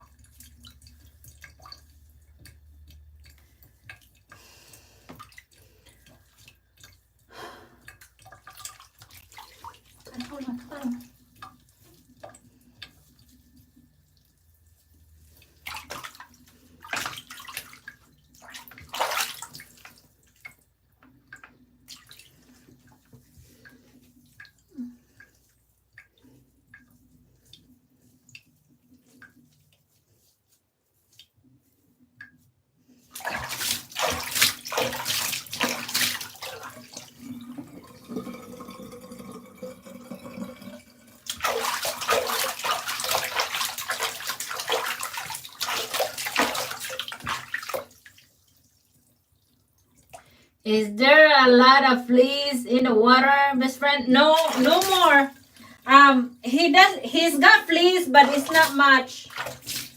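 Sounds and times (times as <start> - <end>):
water splashing in a tub: 0.0 - 50.6, 53.8 - 59.9.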